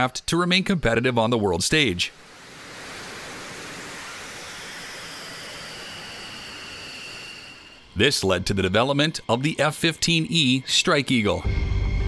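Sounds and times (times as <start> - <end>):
faint high whine: 0.0 - 12.0
jet engines idling: 1.3 - 11.5.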